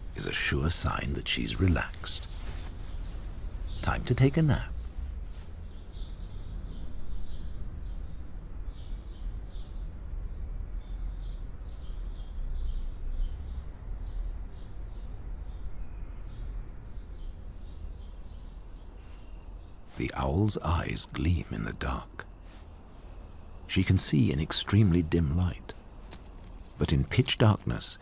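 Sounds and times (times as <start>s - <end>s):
low steady rumble: 0.0s - 27.9s
small birds chirping: 0.0s - 28.0s.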